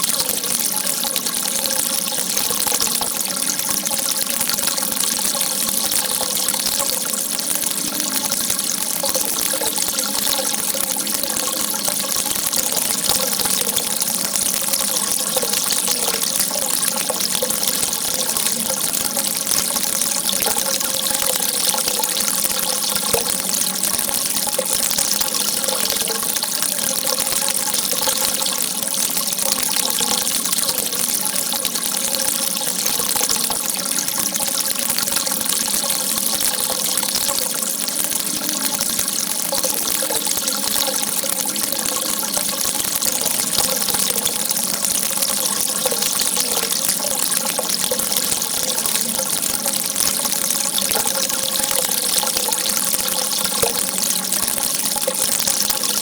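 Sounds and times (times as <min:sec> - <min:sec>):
water gushing in a jet: 0:00.0 - 0:56.0.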